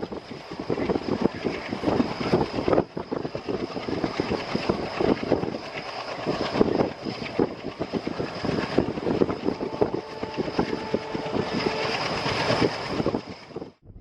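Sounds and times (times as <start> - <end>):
train wheels clattering on track: 0.0 - 13.4.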